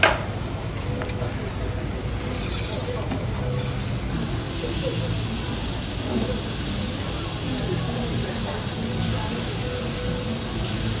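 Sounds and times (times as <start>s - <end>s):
food sizzling on a griddle: 0.1s - 11.0s.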